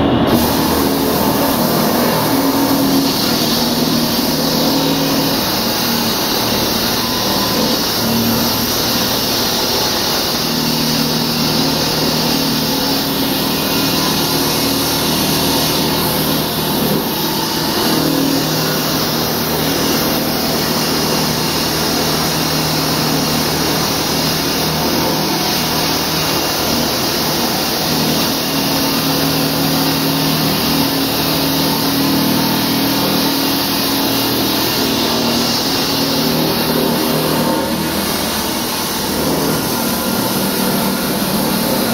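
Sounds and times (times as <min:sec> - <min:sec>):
concrete saw grinding: 0:00.1 - 0:41.9.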